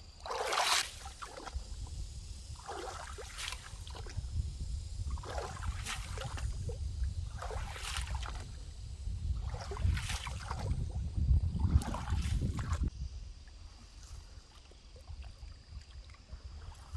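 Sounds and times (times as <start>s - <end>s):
splashing strokes in shallow water: 0.0s - 16.9s.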